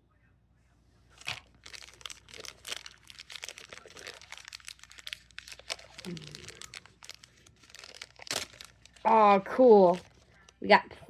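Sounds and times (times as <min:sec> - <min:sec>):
plastic wrapper crinkling: 0:01.1 - 0:10.6.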